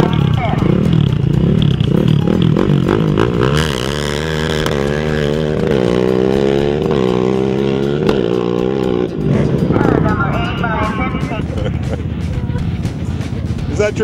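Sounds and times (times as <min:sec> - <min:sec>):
quad bikes accelerating hard: 0:00.0 - 0:14.0.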